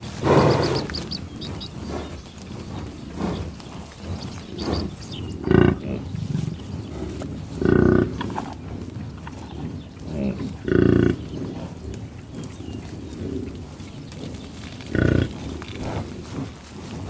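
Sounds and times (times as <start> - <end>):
bison breathy blast: 0.0 - 17.0
bison deep grunts: 0.0 - 17.0.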